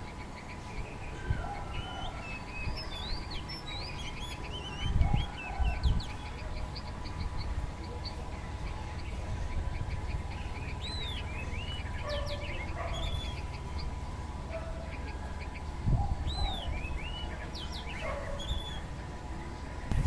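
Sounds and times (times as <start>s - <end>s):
bird singing chirps: 0.0s - 19.0s
faint steady hum: 0.0s - 20.0s.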